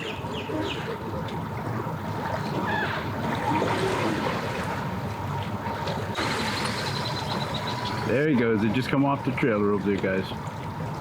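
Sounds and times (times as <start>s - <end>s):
outboard motor at raised throttle: 0.0s - 11.0s
water churning: 0.0s - 11.0s.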